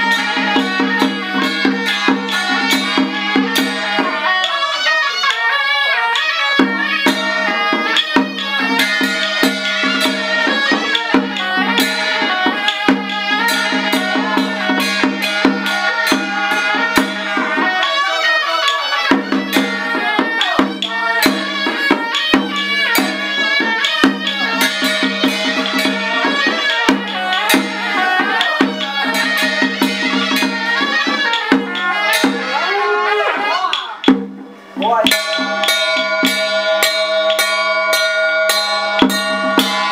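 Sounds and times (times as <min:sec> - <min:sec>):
drum gong and cymbal strikes: 0:00.0 - 0:04.8, 0:06.5 - 0:18.0, 0:19.0 - 0:32.6, 0:33.7 - 0:39.9
reedy wind instrument melody: 0:00.0 - 0:39.9.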